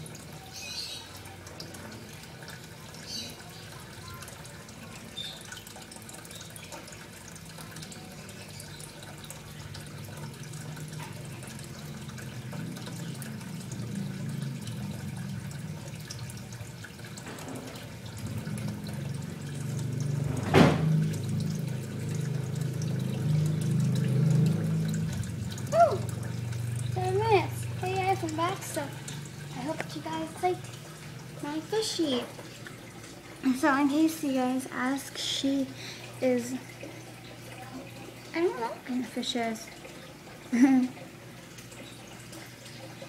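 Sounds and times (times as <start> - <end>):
water running and trickling: 0.0 - 43.0.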